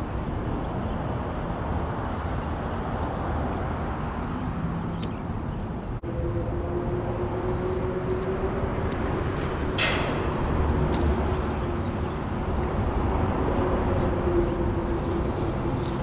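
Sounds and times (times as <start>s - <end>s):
constant low hum: 0.0s - 16.0s
road traffic rumble: 0.0s - 16.0s.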